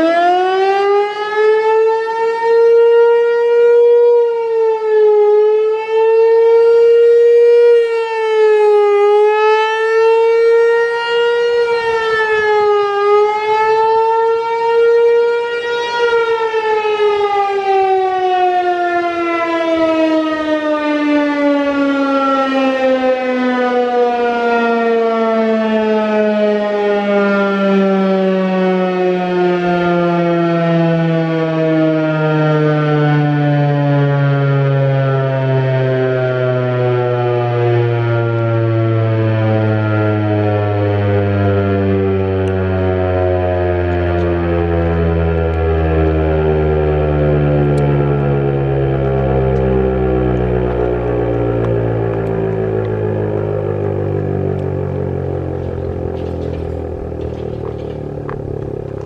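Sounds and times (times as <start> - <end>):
outdoor warning siren: 0.0 - 59.0.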